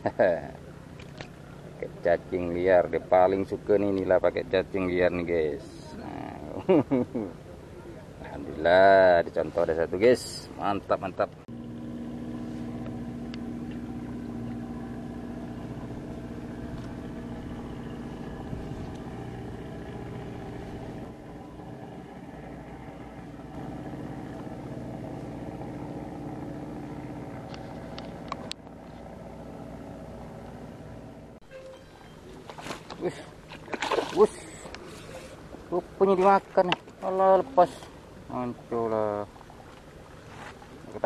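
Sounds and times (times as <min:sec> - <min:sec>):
small engine droning: 0:00.0 - 0:41.0.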